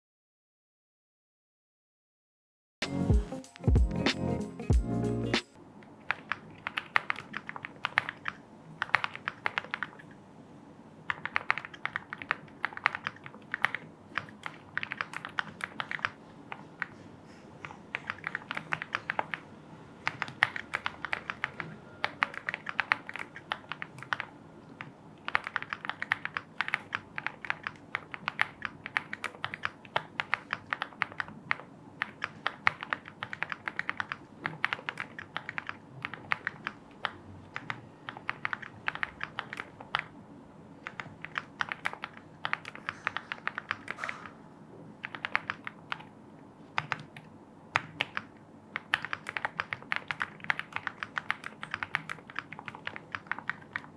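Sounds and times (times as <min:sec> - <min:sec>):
mechanical keyboard typing: 0:05.9 - 0:10.2, 0:11.1 - 0:17.0, 0:17.6 - 0:40.2, 0:40.8 - 0:44.4, 0:45.0 - 0:53.9.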